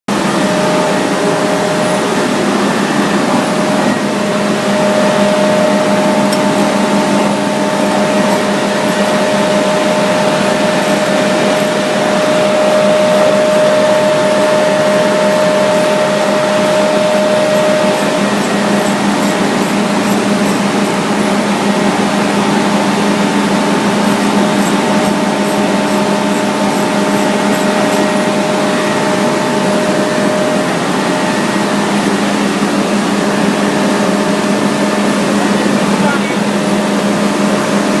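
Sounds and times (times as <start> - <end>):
constant machine whine: 0.1 - 38.0
industrial machinery running: 0.1 - 38.0.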